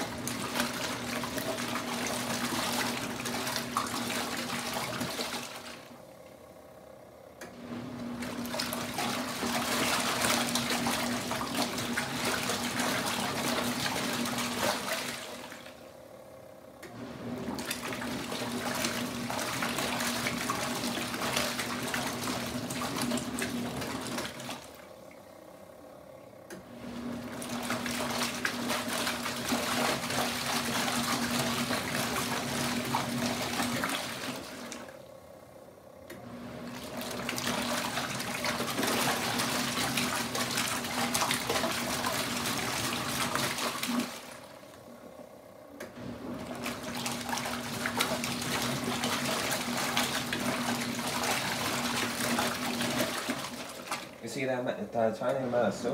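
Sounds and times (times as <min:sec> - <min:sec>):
steady motor hum: 0:00.0 - 0:55.9
washing machine churning water: 0:00.0 - 0:55.9.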